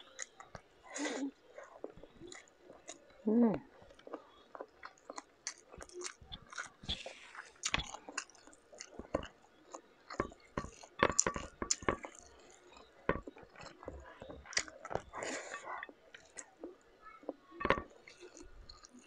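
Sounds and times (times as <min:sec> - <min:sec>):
chewing and mouth clicks: 0:00.0 - 0:19.0
shrimp shells crackling: 0:01.5 - 0:16.8, 0:17.5 - 0:19.0.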